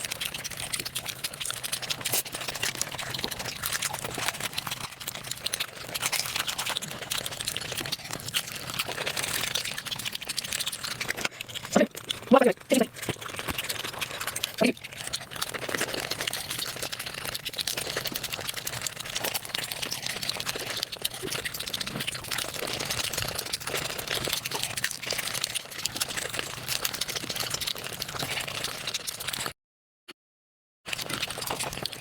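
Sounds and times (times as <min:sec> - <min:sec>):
sped-up chewing and crunching: 0:00.0 - 0:29.6, 0:30.9 - 0:32.0.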